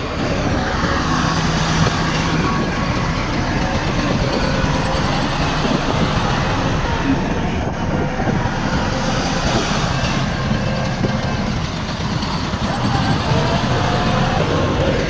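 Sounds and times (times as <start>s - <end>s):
diesel machinery engine running: 0.0s - 15.0s.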